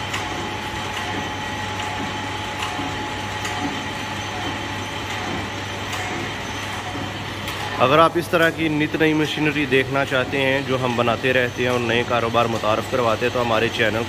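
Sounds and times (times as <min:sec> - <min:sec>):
packing machine hum: 0:00.0 - 0:14.0.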